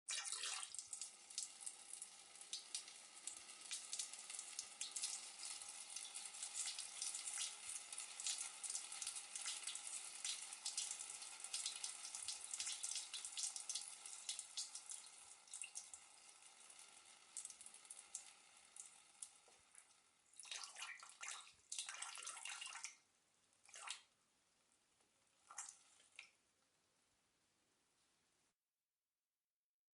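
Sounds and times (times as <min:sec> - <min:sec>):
person urinating: 0:00.1 - 0:23.0, 0:25.4 - 0:26.4.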